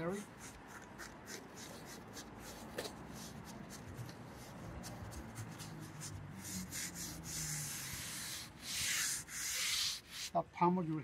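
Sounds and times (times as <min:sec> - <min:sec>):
hand rubbing fabric: 0:00.0 - 0:10.4.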